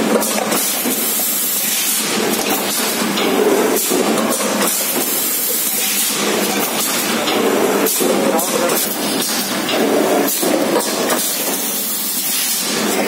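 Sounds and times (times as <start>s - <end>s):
forming machine hissing: 0.0s - 13.0s.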